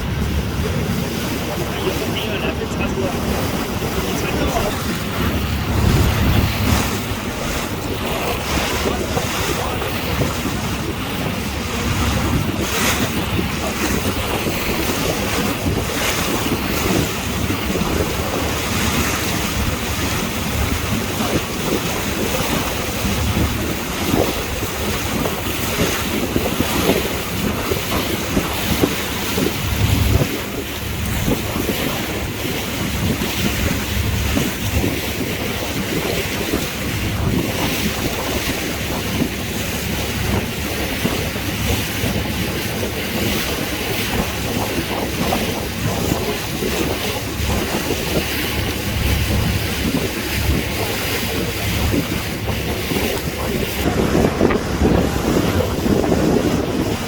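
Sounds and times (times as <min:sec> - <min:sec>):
sea water rushing and splashing: 0:00.0 - 0:57.0
wind buffeting microphone: 0:00.0 - 0:57.0.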